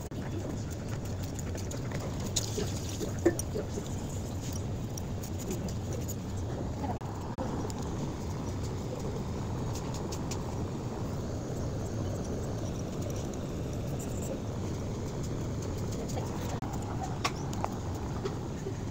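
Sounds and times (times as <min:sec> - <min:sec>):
low rumbling background noise: 0:00.0 - 0:18.9.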